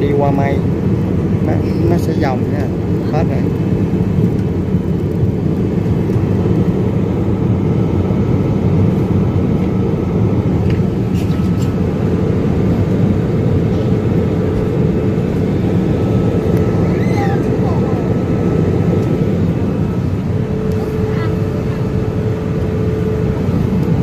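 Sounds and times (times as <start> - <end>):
airliner cabin engine and airflow noise: 0.0 - 24.0.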